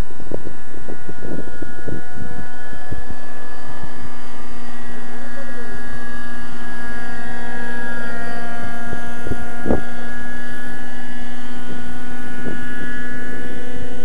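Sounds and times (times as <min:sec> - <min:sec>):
model helicopter engine whine: 0:00.0 - 0:14.0.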